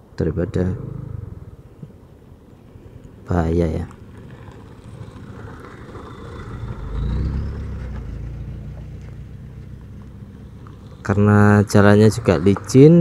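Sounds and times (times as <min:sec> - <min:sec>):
truck driving past: 0:00.7 - 0:13.0.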